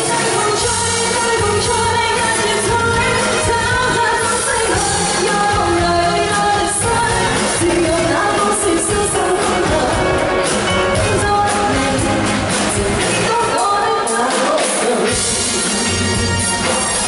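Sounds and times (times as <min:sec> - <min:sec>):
live band playing: 0:00.0 - 0:17.0
person singing pop song: 0:00.0 - 0:17.0.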